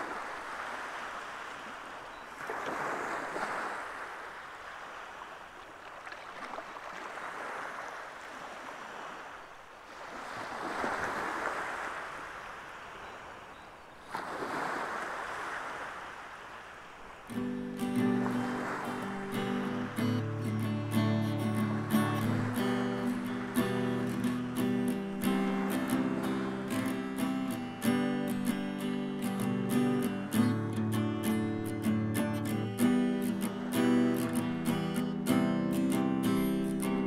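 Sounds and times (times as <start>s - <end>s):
waves washing onto beach: 0.0s - 37.0s.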